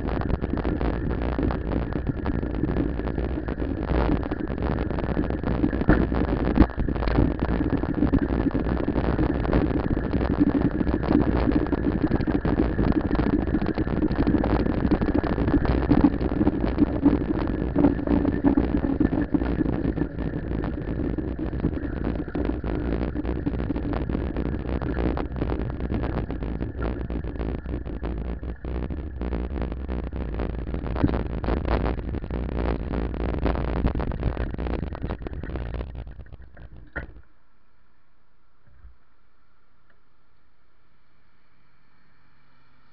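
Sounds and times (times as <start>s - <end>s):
wind and road rumble: 0.0s - 37.2s
crackling clicks: 0.0s - 37.4s
faint high whine: 0.0s - 42.9s.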